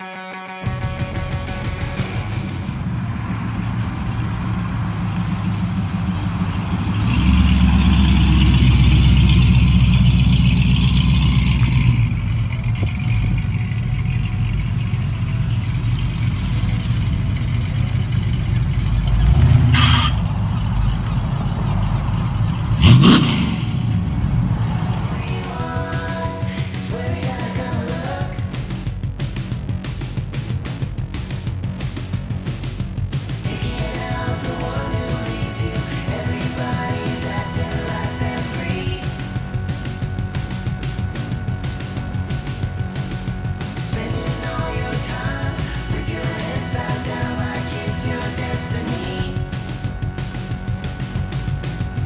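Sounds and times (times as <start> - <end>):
car engine idling and revving: 0.6 - 52.0.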